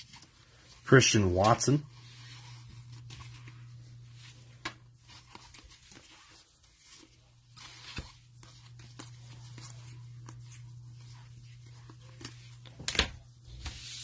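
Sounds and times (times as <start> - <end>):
soft rustling of cards and wrappers: 0.0 - 14.0.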